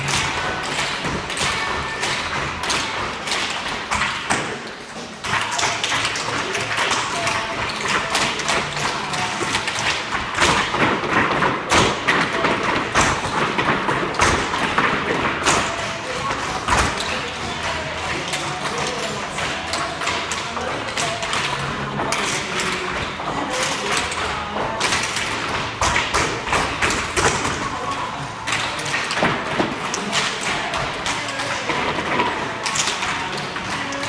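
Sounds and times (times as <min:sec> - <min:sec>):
tap shoes on wooden floor: 0:00.0 - 0:34.0.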